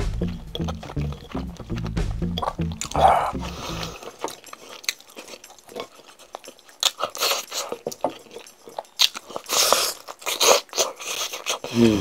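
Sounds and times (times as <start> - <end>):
close chewing with wet crunches: 0.0 - 12.0.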